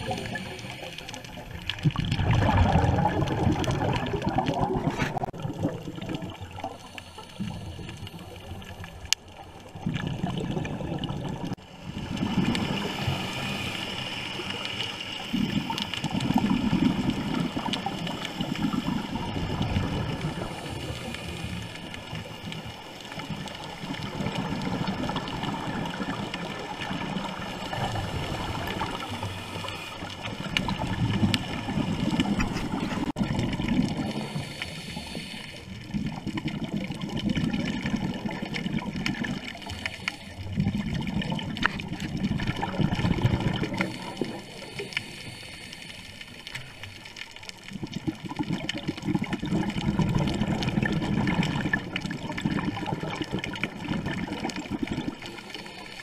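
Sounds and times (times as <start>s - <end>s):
watery hiss: 0.0s - 9.1s, 11.6s - 36.6s, 37.4s - 47.5s, 49.6s - 56.0s
exhaled bubbles rushing: 0.0s - 45.0s, 47.1s - 56.0s.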